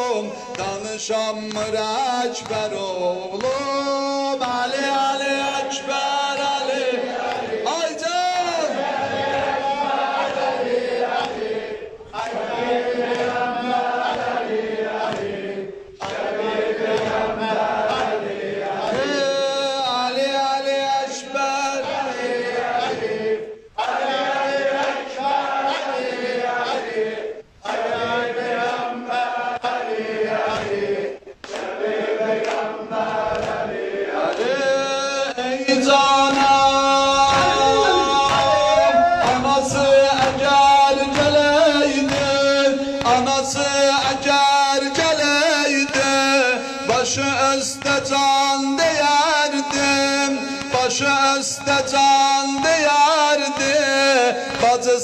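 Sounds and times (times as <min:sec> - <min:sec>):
men chanting a mourning lament: 0:00.0 - 0:55.0.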